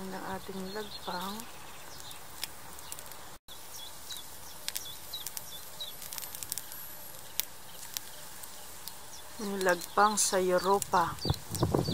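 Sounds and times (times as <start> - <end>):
charcoal grill crackling and popping: 0.0 - 11.9
small birds chirping: 0.0 - 11.9.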